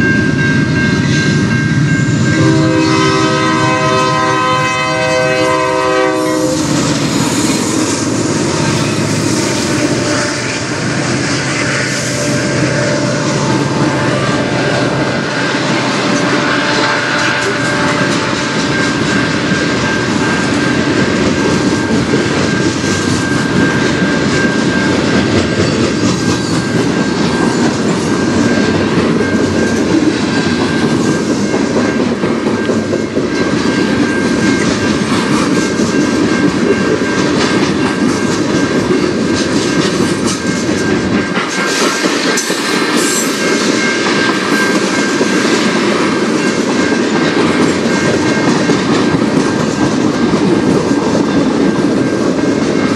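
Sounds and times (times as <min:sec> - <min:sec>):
deep rumble of train: 0:00.0 - 0:52.9
train wheels clacking on rails: 0:00.0 - 0:52.9.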